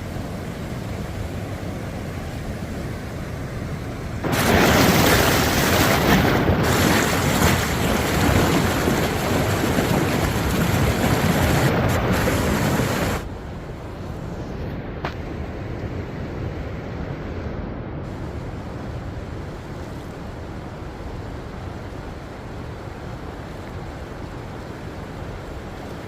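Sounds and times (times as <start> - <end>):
flood water rushing: 0.0 - 13.3, 18.1 - 26.0.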